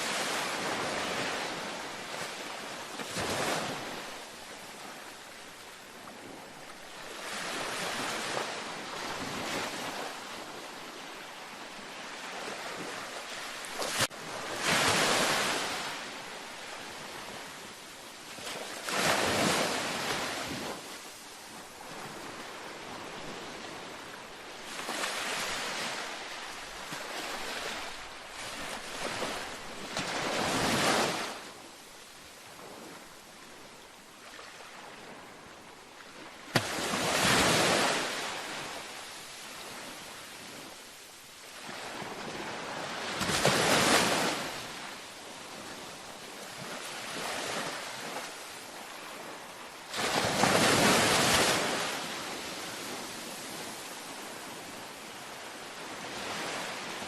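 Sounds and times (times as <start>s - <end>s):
ocean waves washing up beach: 0.0s - 57.0s.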